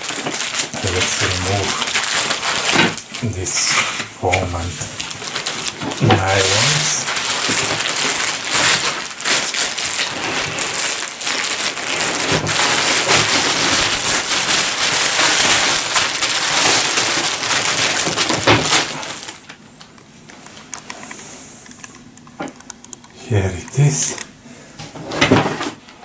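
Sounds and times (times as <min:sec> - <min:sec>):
plastic wrapping crinkling: 0:00.0 - 0:24.4.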